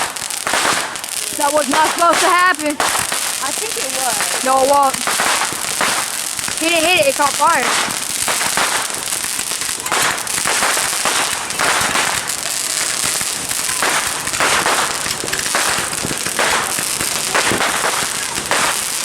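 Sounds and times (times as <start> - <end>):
fireworks crackling and popping: 0.0 - 19.0.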